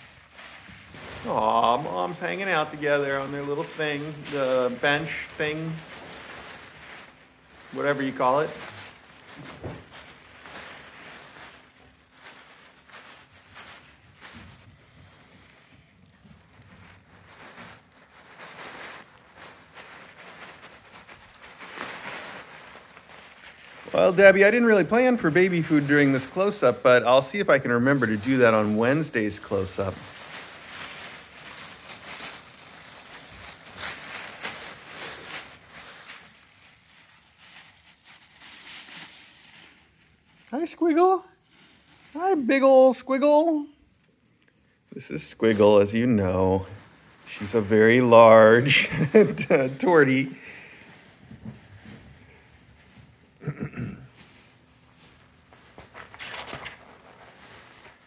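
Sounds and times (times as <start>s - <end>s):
tissue paper crinkling: 0.0s - 58.0s.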